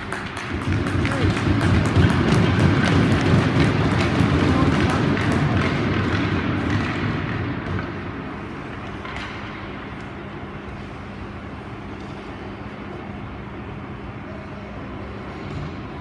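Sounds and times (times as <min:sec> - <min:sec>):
arena hall noise: 0:00.0 - 0:16.0
steady rink hum: 0:00.0 - 0:16.0.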